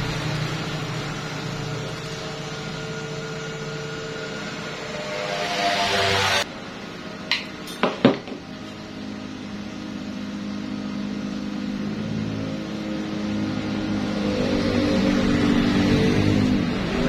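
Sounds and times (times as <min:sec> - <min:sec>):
steady machine hum: 0:00.0 - 0:14.5.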